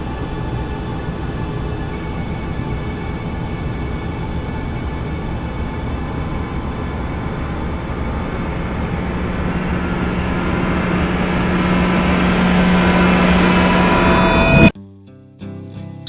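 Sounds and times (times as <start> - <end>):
droning wash of noise: 0.0 - 14.7
low held tone: 0.0 - 14.7.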